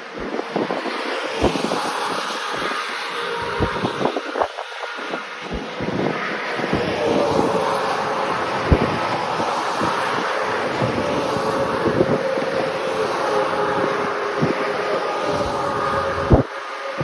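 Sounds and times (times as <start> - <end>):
vehicle and road noise: 0.0 - 17.0
wind buffeting microphone: 0.0 - 17.0.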